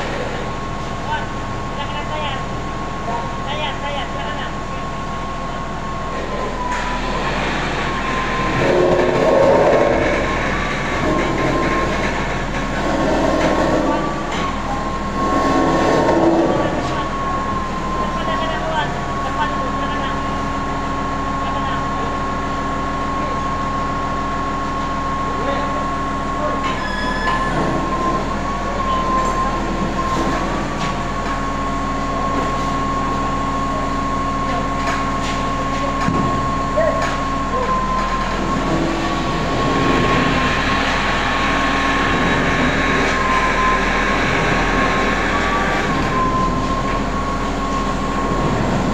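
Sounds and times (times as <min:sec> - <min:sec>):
crane motor whine: 0:00.0 - 0:48.9
industrial machinery drone: 0:00.0 - 0:48.9.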